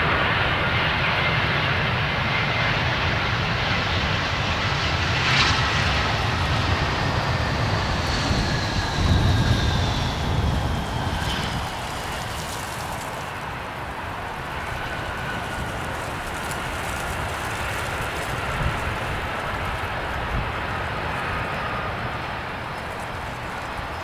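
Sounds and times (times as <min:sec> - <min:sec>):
jet engine whine: 0:00.0 - 0:24.0
wind buffeting microphone: 0:03.0 - 0:24.0
rush of jet noise: 0:03.3 - 0:24.0.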